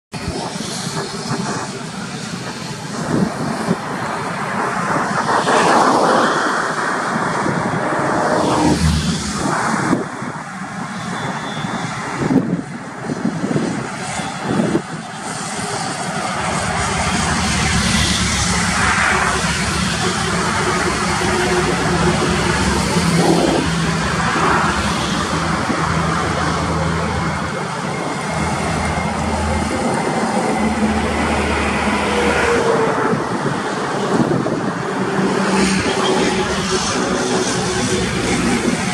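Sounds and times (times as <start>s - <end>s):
passing traffic: 0.1s - 38.9s.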